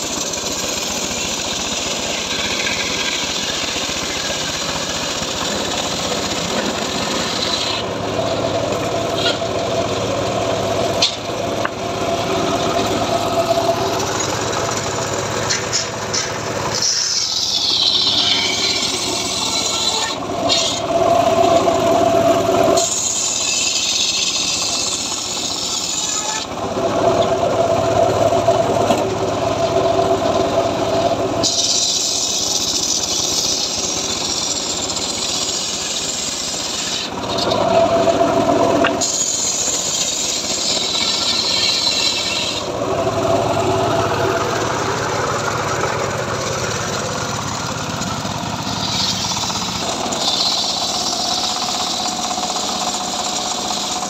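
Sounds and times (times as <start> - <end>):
circular saw cutting logs: 0.0 - 54.0.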